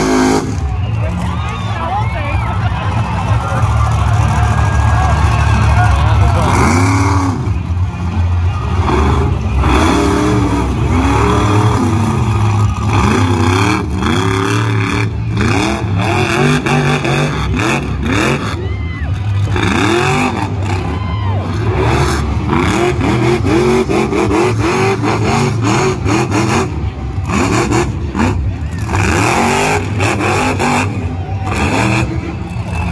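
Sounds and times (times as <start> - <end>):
monster truck engine revving: 0.0 - 32.9.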